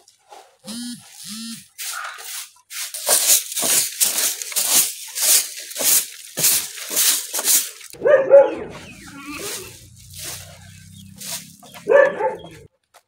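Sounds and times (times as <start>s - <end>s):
straw broom scrubbing wooden trough: 0.1s - 8.0s, 8.6s - 12.7s.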